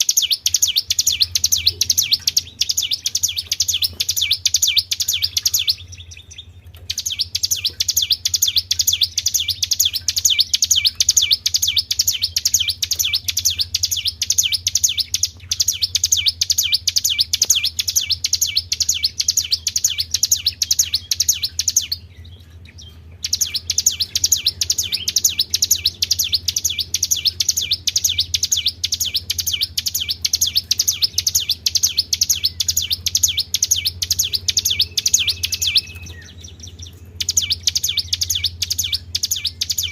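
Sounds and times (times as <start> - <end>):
songbird high-pitched trill: 0.0 - 39.9.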